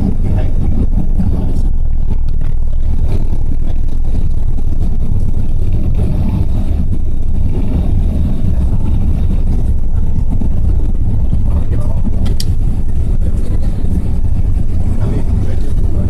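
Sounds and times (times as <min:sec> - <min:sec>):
jet engines low rumble: 0:00.0 - 0:16.0.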